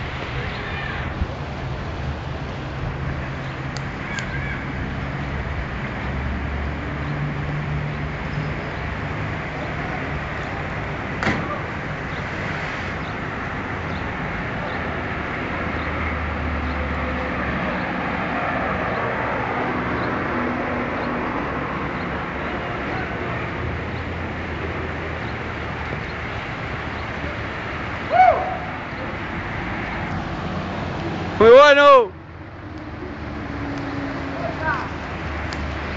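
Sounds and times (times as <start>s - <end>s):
road traffic rumble and hiss: 0.0s - 35.9s.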